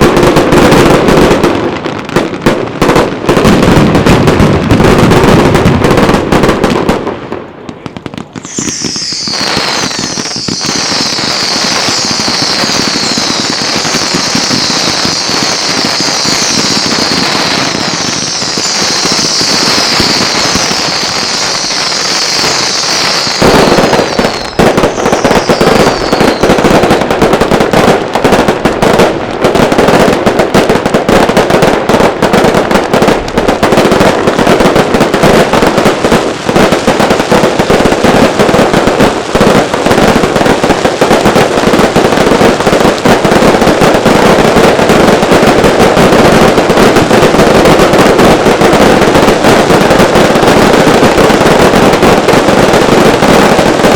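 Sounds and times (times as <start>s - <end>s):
firework bangs: 0.0s - 53.9s
fireworks crackling: 0.0s - 53.9s
whistling fireworks falling in pitch: 0.0s - 53.9s.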